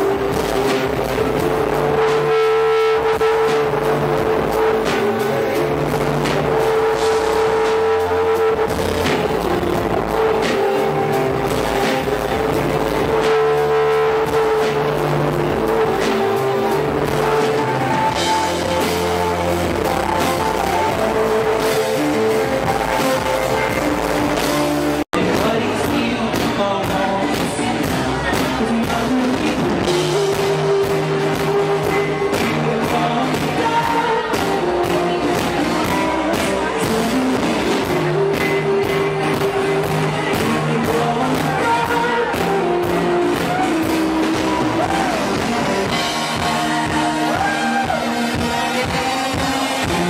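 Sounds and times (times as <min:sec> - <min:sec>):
distorted live rock band: 0:00.0 - 0:50.0
person singing: 0:00.0 - 0:50.0
steady drum beat: 0:00.0 - 0:50.0.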